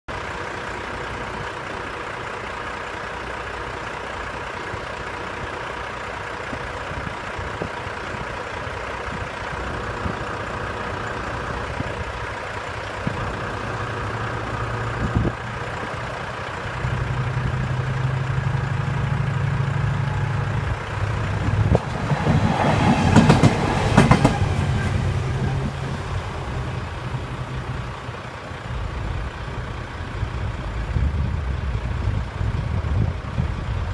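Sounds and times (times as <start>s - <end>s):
diesel locomotive engine hum: 0.1s - 33.9s
wheels clattering over rail joints: 0.3s - 30.2s.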